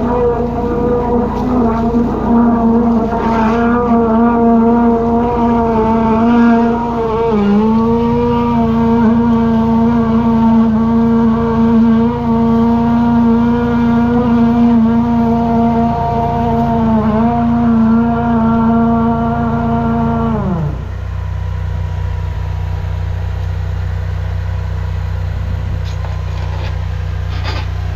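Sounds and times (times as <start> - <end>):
drain jetter engine running: 0.0 - 27.9.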